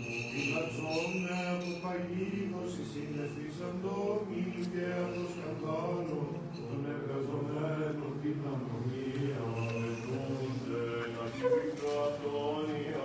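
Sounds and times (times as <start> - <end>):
men chanting: 0.4 - 13.0.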